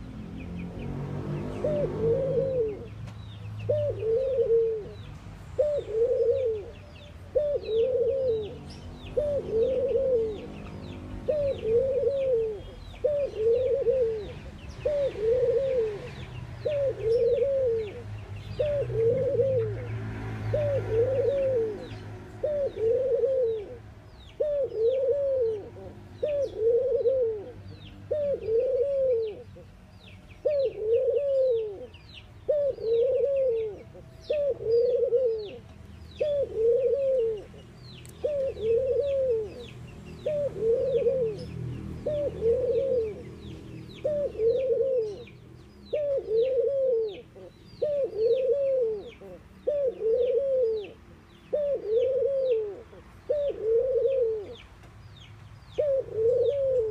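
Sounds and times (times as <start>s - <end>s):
small birds chirping: 0.0s - 56.9s
dove cooing: 0.9s - 29.6s, 30.4s - 54.6s, 55.7s - 56.9s.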